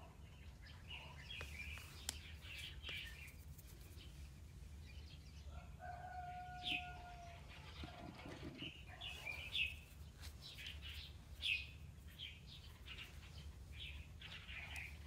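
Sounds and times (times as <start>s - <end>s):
birds chirping: 0.0s - 15.0s
long steady bird call: 0.0s - 15.0s.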